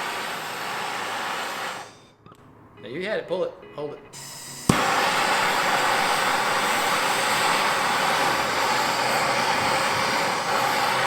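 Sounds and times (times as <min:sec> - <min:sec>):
gas torch flame hissing: 0:00.0 - 0:02.0, 0:04.2 - 0:11.0.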